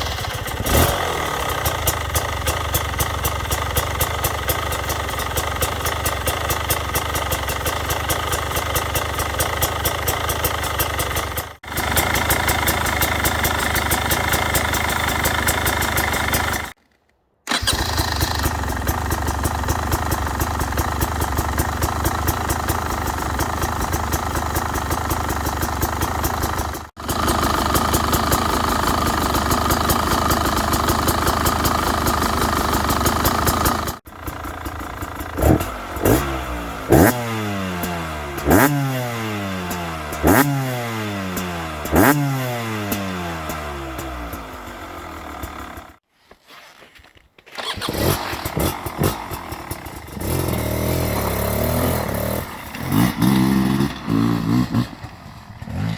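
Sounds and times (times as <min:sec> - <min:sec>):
two-stroke engine idling: 0:00.0 - 0:16.8, 0:17.5 - 0:46.0, 0:47.6 - 0:55.9.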